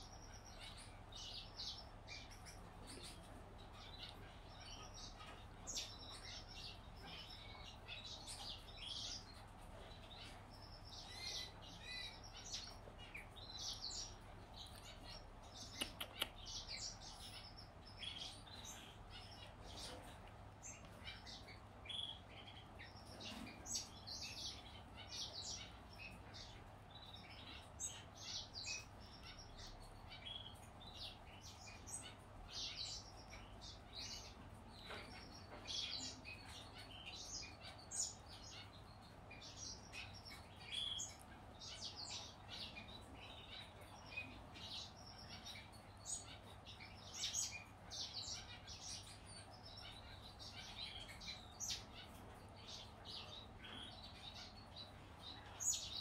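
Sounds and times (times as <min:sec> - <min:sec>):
finch nestlings begging chirps: 0:00.0 - 0:56.0.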